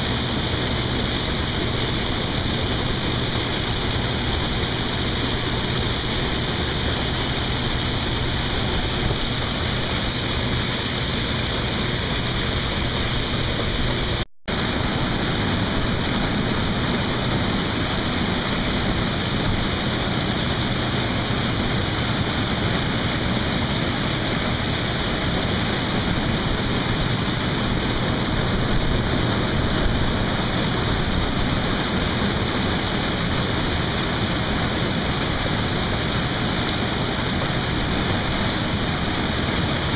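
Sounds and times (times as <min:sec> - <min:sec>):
harvest machinery running: 0:00.0 - 0:39.9.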